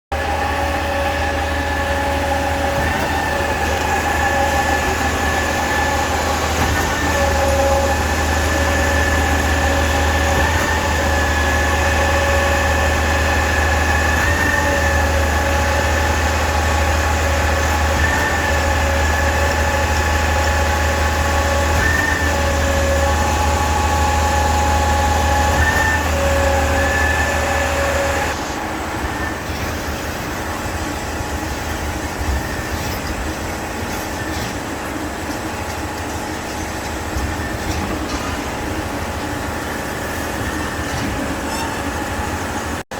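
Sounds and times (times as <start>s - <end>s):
concrete pump truck running: 0.1s - 42.9s.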